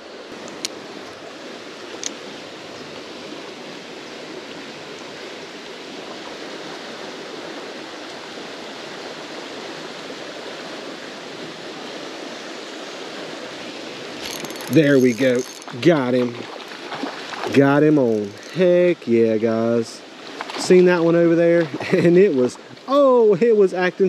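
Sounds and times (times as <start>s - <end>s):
creek running over stones: 0.0s - 24.0s.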